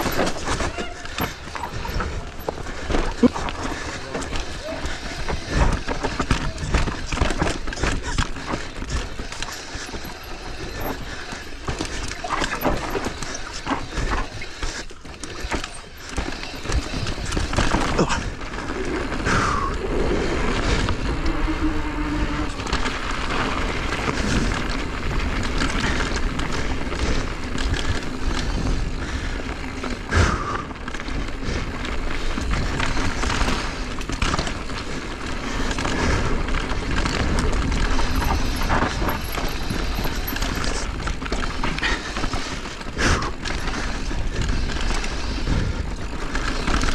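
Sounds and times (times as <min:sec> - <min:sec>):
bike rattling over rocks: 0:00.0 - 0:46.9.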